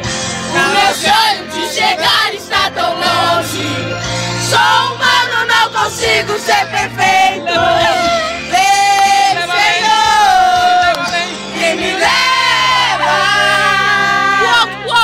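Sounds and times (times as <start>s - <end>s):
gospel song: 0.0s - 15.0s.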